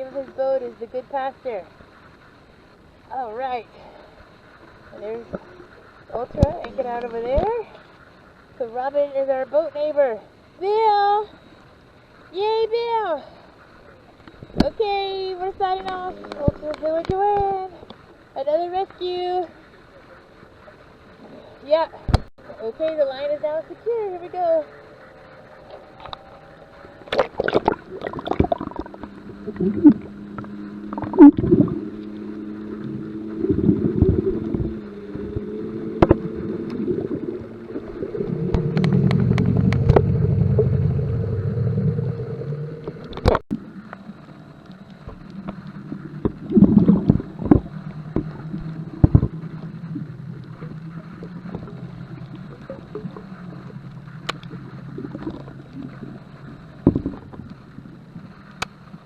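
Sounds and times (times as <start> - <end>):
boat motor running: 0.0 - 11.4, 12.2 - 59.0.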